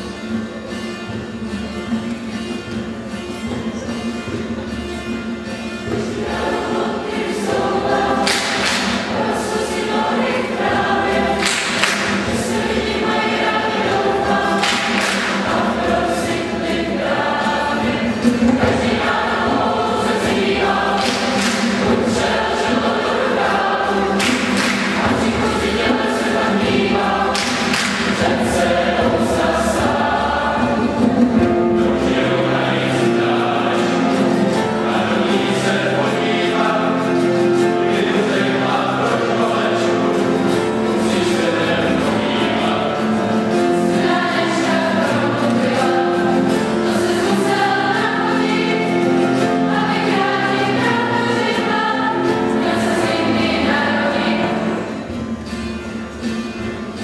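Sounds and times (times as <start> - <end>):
acoustic guitar accompaniment: 0.0 - 57.0
piano accompaniment: 2.1 - 57.0
choir singing: 5.2 - 57.0.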